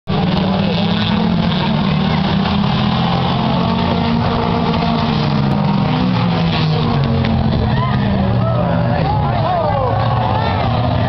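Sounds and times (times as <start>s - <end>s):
race car engines droning: 0.1s - 11.0s
spectators chattering: 0.1s - 11.0s.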